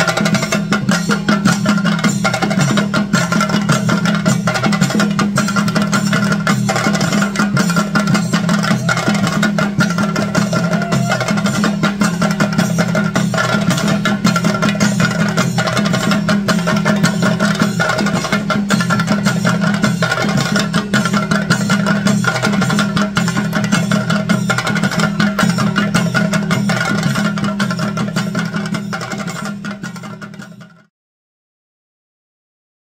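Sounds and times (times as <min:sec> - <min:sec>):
drum ensemble playing: 0:00.0 - 0:30.9.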